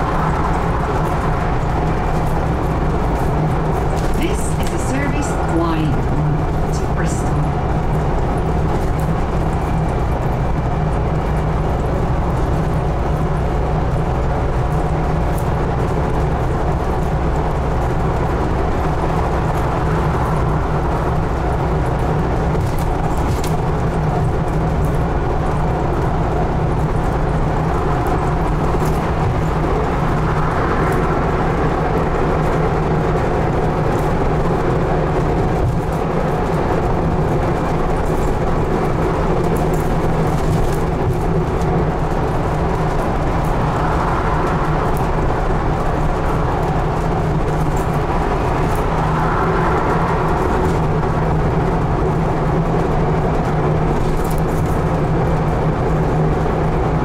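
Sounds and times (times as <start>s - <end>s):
bus engine drone: 0.0s - 57.0s
road and body noise: 0.0s - 57.0s.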